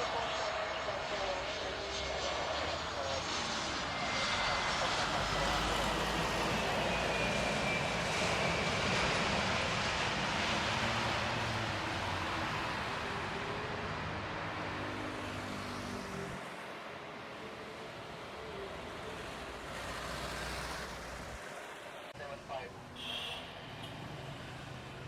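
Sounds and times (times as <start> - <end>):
jet airliner passing by: 0.0 - 25.0.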